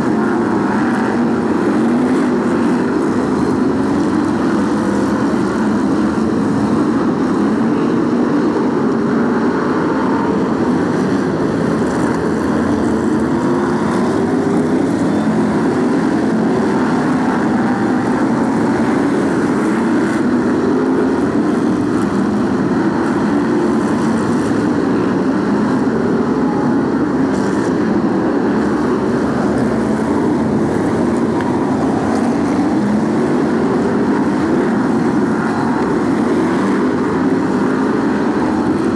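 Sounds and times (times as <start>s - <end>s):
racing car engines roaring: 0.0s - 38.9s.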